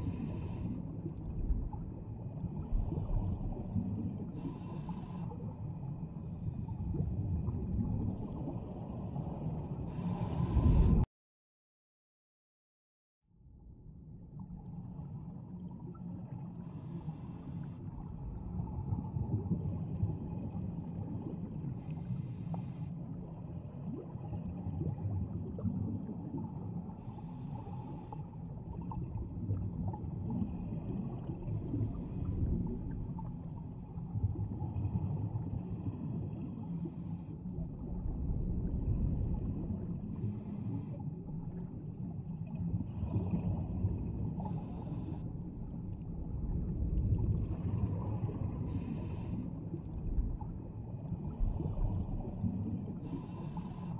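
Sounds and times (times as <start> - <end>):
low underwater rumble: 0.0 - 11.0, 13.4 - 53.9.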